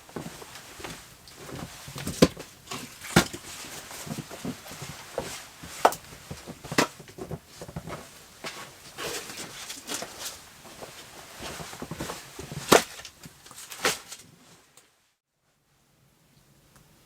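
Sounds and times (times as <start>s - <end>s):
rustling: 0.0s - 14.8s.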